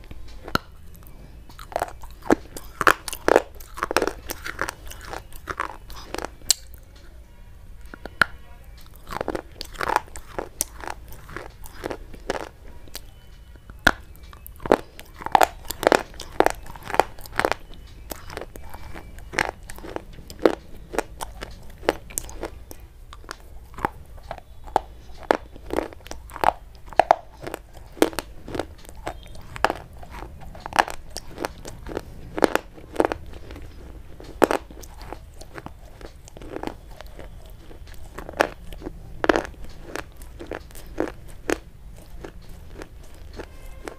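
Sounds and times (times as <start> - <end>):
chalky sticks crunching when chewed: 0.0 - 7.2, 7.8 - 43.9.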